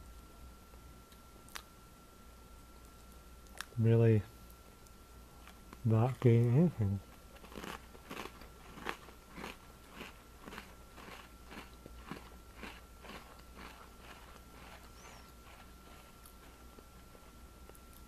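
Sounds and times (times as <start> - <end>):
chewing crunchy cookie: 0.7 - 1.8, 2.5 - 3.8, 4.4 - 18.0.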